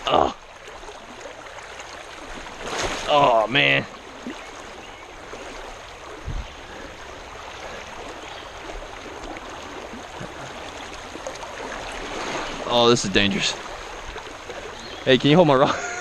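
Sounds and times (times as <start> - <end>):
creek water rushing over rapids: 0.0 - 16.0.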